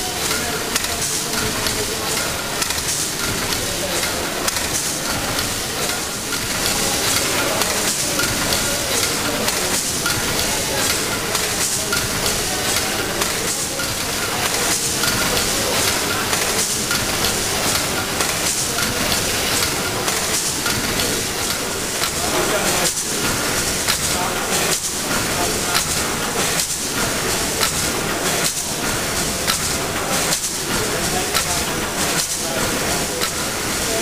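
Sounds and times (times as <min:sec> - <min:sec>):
steam hissing: 0:00.0 - 0:34.0
valve gear clattering: 0:00.0 - 0:34.0.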